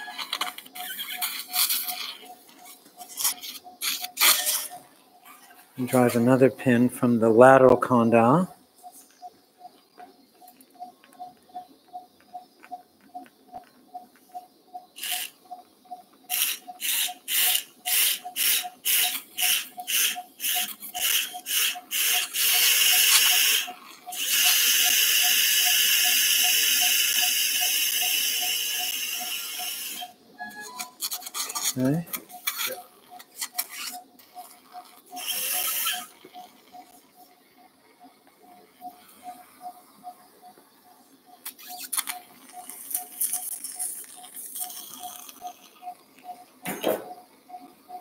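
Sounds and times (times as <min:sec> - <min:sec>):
monitor pulse beeps: 0:00.0 - 0:48.0.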